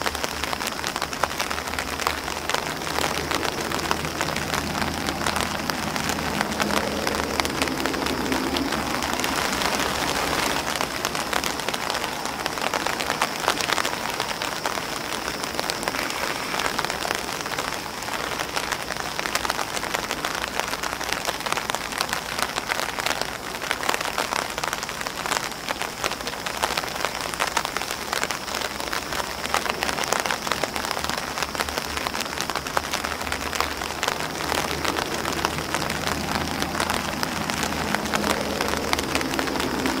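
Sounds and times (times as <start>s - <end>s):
rain on an umbrella and grass: 0.0s - 40.0s.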